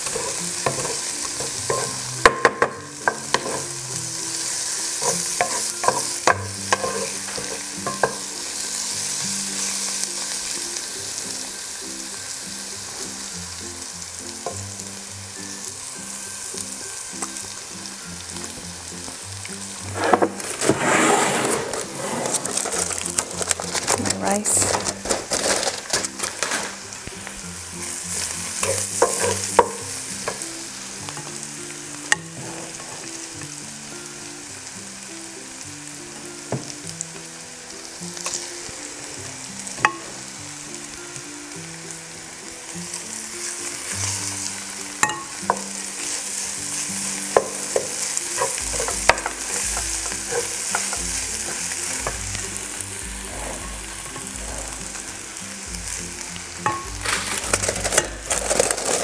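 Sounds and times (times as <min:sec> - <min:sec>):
food sizzling in a frying pan: 0:00.0 - 0:59.0.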